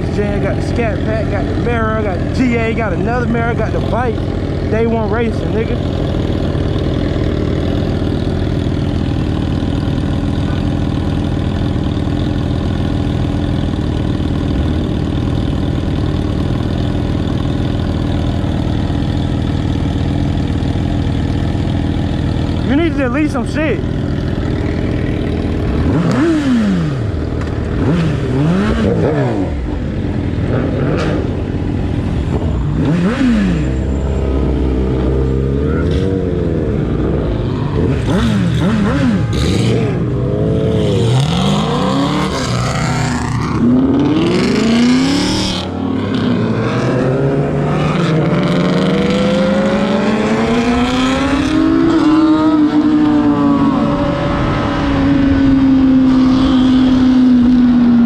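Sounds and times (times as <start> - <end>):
engines revving hard: 0.0 - 11.5, 22.5 - 58.0.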